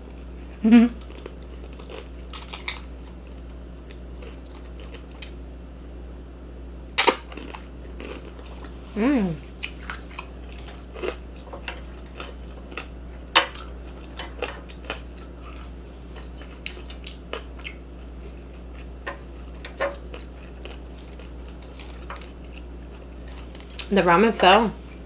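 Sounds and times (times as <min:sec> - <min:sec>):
person chewing food: 0:00.0 - 0:05.4, 0:07.0 - 0:23.9
steady low hum: 0:00.0 - 0:25.0.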